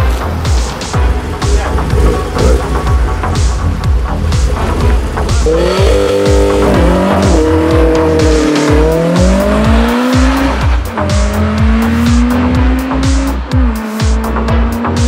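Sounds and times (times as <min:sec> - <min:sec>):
electronic music with beat: 0:00.0 - 0:15.0
car engine accelerating: 0:00.5 - 0:15.0.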